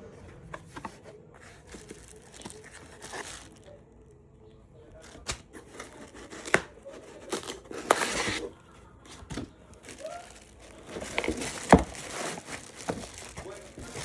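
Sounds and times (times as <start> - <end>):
plastic crinkling and rustling: 0.3 - 3.9, 5.0 - 14.0.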